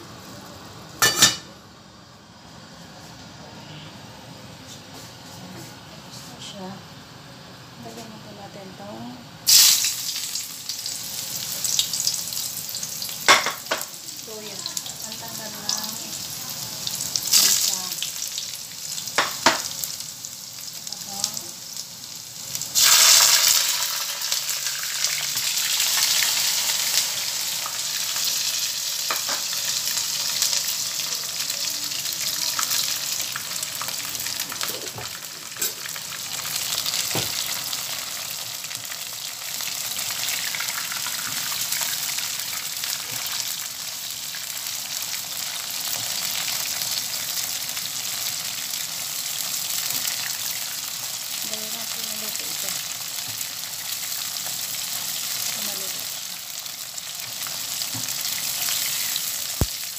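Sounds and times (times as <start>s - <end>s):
oil sizzling in a wok: 8.3s - 59.9s.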